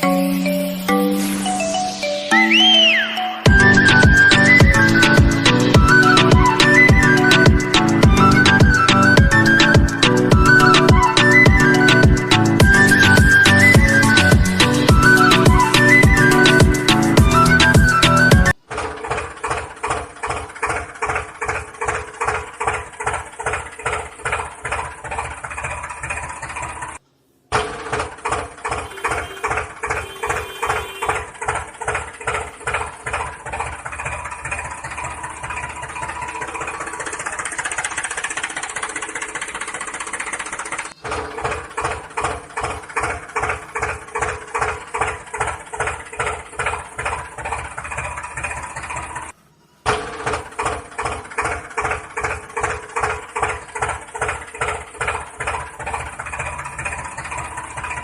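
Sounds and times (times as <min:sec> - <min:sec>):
tractor engine putt-putting: 0:03.5 - 0:58.0.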